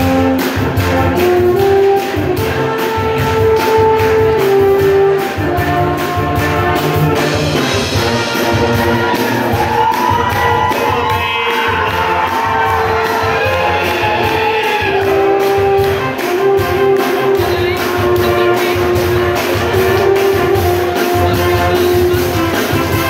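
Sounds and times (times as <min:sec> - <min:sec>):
drum kit steady beat: 0:00.0 - 0:23.0
tuba trombones and trumpets: 0:00.0 - 0:23.0.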